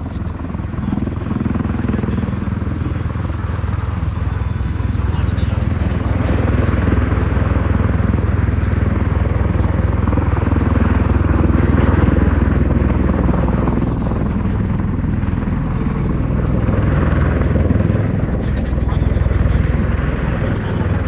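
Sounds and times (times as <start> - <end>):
aircraft rotors droning: 0.0 - 21.0.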